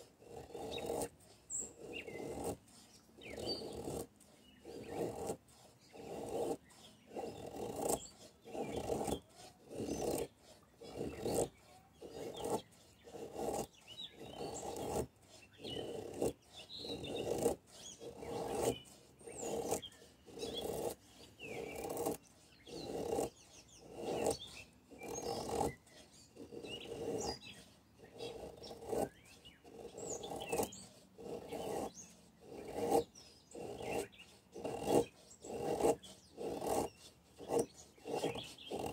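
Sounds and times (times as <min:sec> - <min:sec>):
knife scraping wood: 0:00.0 - 0:38.9.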